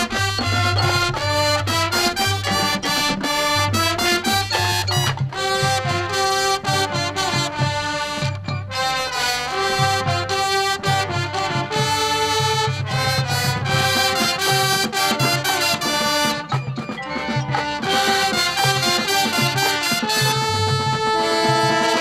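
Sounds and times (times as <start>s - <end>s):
drumline: 0.0s - 22.0s
marching band brass: 0.0s - 22.0s.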